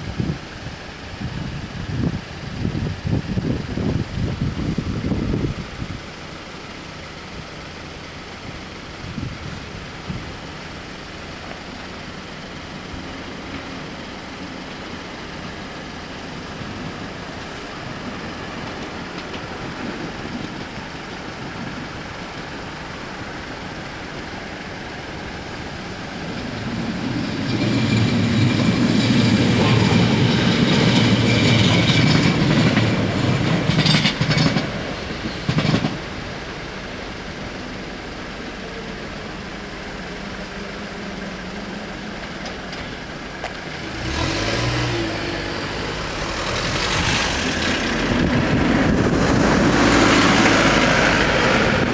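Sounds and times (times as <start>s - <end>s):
electric train passing: 0.0s - 51.9s
train wheels clicking over rail joints: 9.4s - 51.9s.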